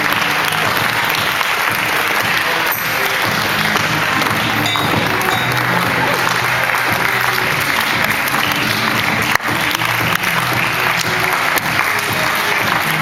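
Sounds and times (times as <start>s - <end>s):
audience applauding: 0.0s - 13.0s
music playing: 0.0s - 13.0s.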